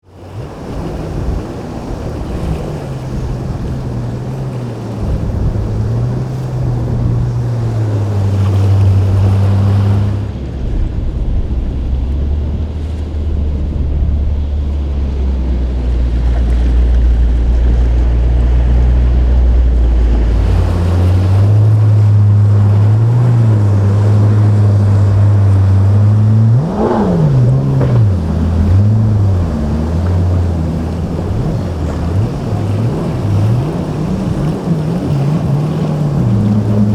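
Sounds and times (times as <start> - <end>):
boat engine revving: 0.0 - 36.9
motorboat engines running: 0.0 - 36.9
wind and water noise: 0.0 - 36.9.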